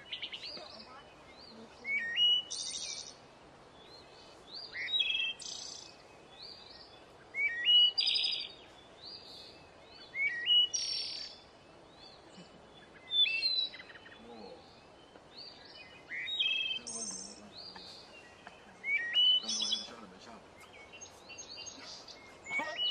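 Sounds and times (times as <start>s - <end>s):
songbird singing: 0.0s - 22.9s.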